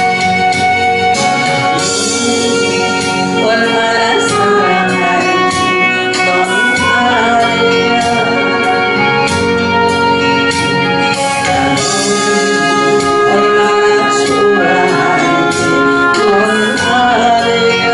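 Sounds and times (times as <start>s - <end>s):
instrumental accompaniment: 0.0s - 17.9s
woman singing into microphone: 0.0s - 17.9s.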